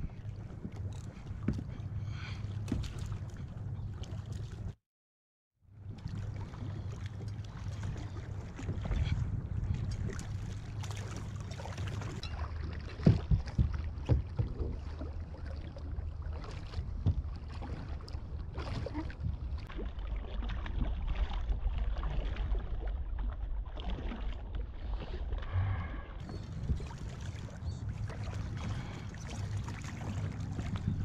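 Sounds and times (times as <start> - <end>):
wind rumble on microphone: 0.0 - 4.8, 5.8 - 16.1, 16.7 - 31.0
water splashing: 6.1 - 31.0.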